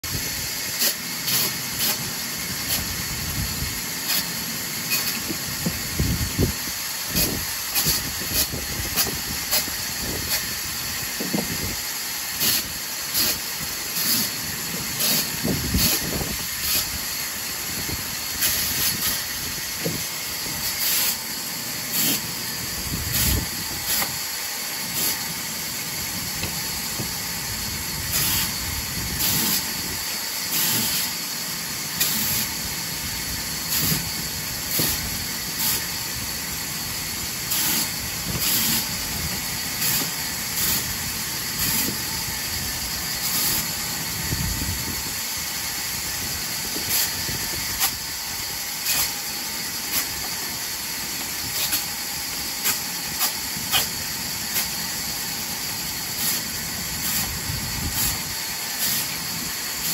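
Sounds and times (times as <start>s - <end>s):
band saw running: 0.0s - 59.9s.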